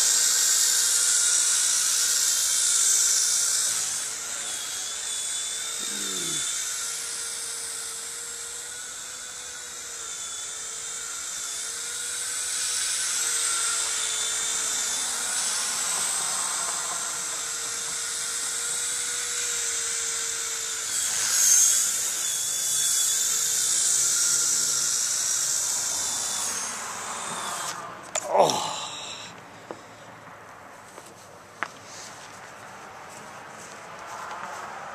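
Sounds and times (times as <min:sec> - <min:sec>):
toy helicopter motors whining: 0:00.0 - 0:29.4.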